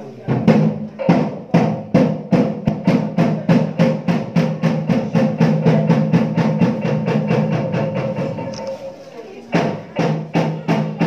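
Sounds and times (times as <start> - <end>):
drums beating: 0.0 - 11.0.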